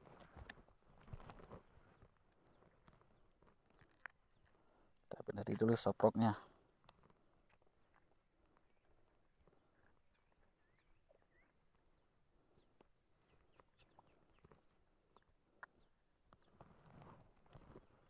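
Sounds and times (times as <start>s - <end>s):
small chirps and clicks: 0.0s - 5.8s, 6.6s - 17.8s.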